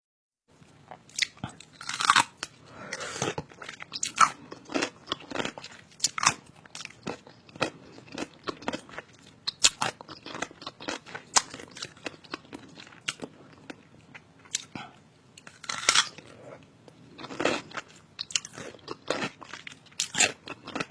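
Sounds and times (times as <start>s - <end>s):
person chewing noisily: 0.9s - 20.9s.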